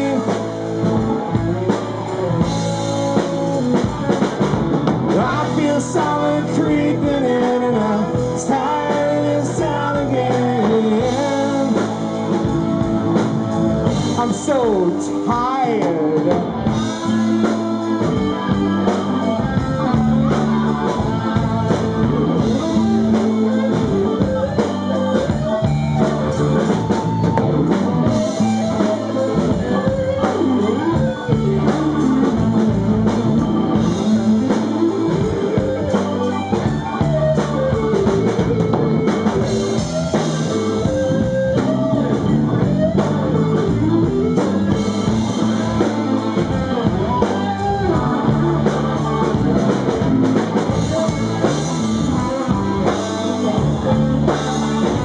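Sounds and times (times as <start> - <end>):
drums: 0.0 - 55.0
electric guitar solo: 0.0 - 55.0
low backing: 0.0 - 55.0.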